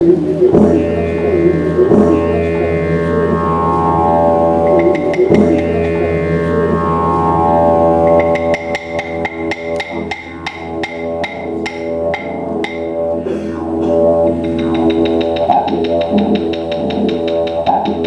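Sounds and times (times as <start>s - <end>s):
didgeridoo drone: 0.0s - 18.0s.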